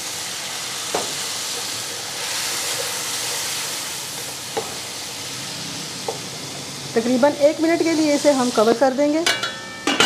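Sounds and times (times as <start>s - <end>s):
masala sizzling in hot oil: 0.0s - 10.0s.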